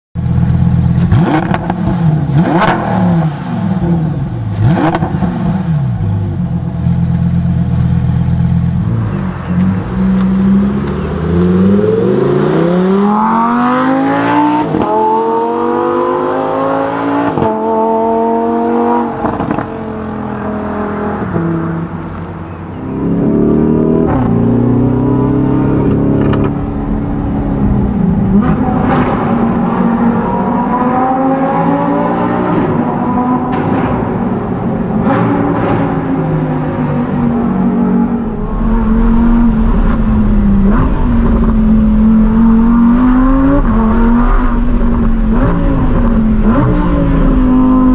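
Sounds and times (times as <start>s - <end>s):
sports car engine revving: 0.4s - 47.9s.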